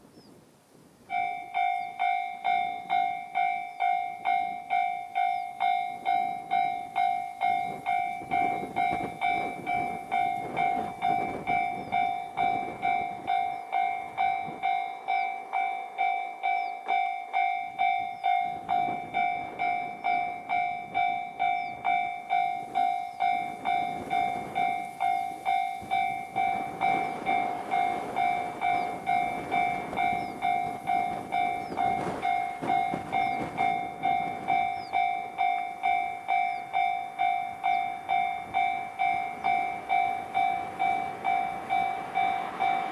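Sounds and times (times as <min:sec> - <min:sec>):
level crossing warning bell ringing: 0:01.0 - 0:42.9.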